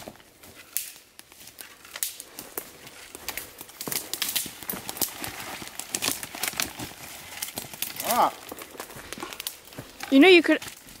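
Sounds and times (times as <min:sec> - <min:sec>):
dry undergrowth crackling: 0:00.0 - 0:11.0
footsteps through thick brush: 0:00.0 - 0:11.0
twigs snapping: 0:00.0 - 0:11.0.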